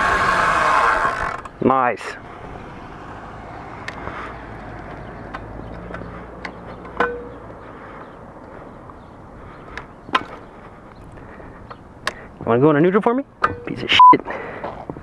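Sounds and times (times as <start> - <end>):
pit bike engine rumble: 0.0 - 12.5.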